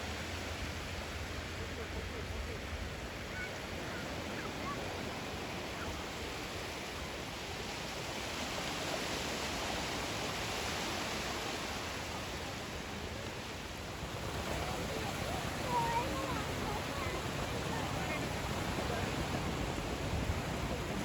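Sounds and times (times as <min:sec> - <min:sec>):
sea surf washing on beach: 0:00.0 - 0:21.0.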